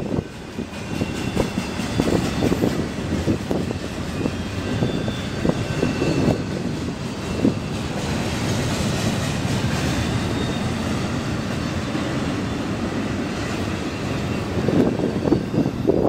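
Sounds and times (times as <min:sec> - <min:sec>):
freight train wheels rolling on rails: 0:00.0 - 0:16.0.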